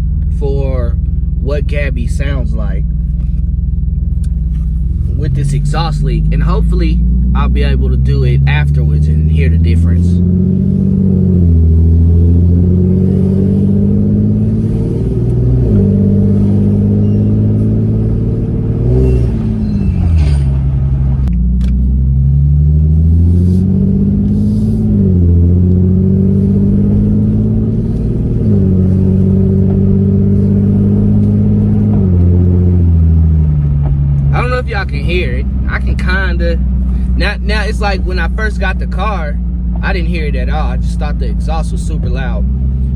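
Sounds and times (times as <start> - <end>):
car engine accelerating through gears: 1.1 - 42.9.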